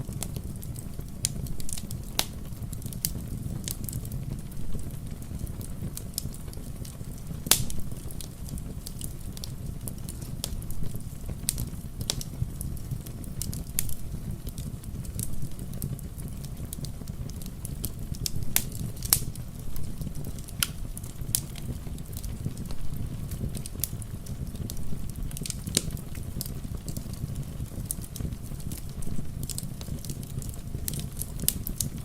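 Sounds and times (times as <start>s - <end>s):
rain rumble: 0.0s - 32.0s
wood fire crackling and popping: 0.0s - 32.0s.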